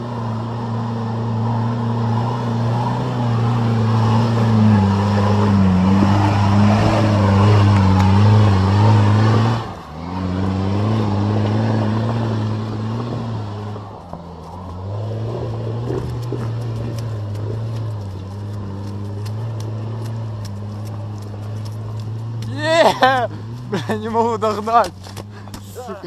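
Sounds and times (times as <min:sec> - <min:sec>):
engine running hard: 0:00.0 - 0:26.0.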